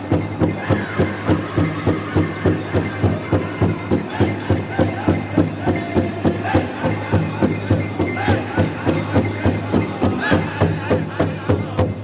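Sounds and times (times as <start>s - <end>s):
big drum beating steadily: 0.0s - 12.0s
people singing: 0.0s - 12.0s.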